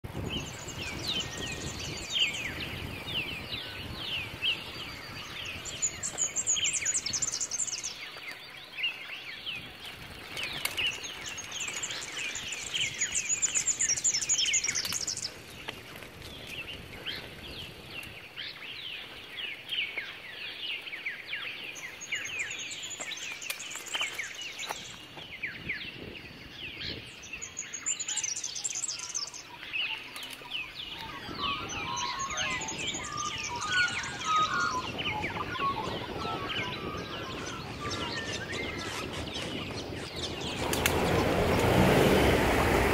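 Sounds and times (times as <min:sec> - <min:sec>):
many birds chirping: 0:00.0 - 0:42.9.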